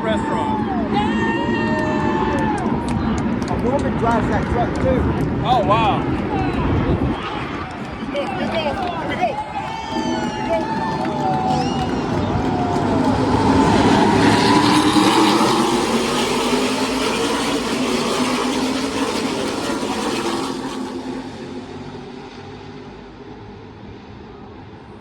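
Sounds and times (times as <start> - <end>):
race truck engines at full speed: 0.0 - 25.0.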